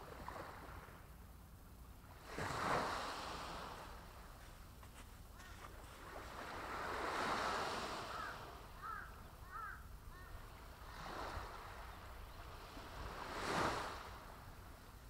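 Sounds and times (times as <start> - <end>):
small waves breaking on shore: 0.0 - 1.1, 2.0 - 15.0.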